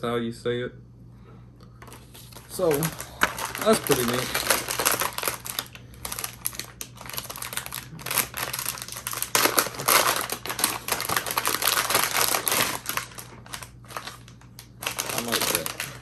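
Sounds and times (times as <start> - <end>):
packaging crinkling and rustling: 1.8 - 16.0.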